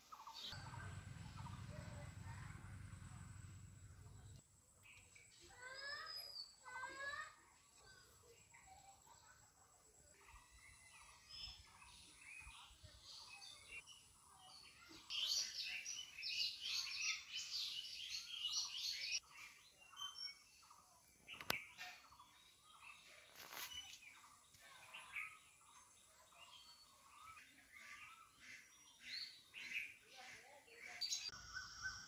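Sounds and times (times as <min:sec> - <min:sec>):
birds chirping faintly: 0:00.0 - 0:32.0.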